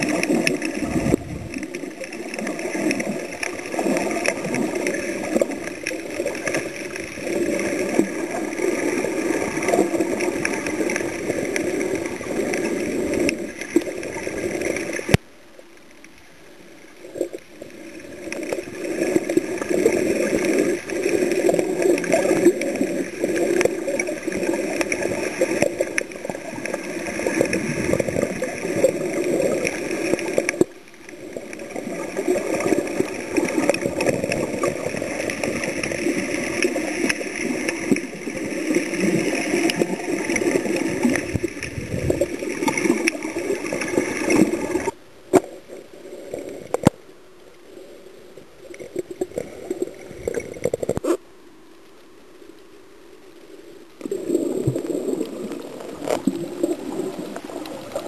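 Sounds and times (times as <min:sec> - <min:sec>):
water gurgling and bubbling: 0:00.0 - 0:15.2, 0:17.0 - 0:47.0, 0:47.7 - 0:51.2, 0:54.0 - 0:58.0.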